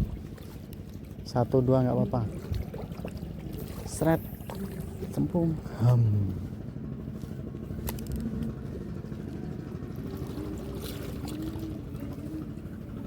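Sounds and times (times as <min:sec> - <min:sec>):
low waterside rumble: 0:00.0 - 0:13.0
water sloshing: 0:00.0 - 0:13.0.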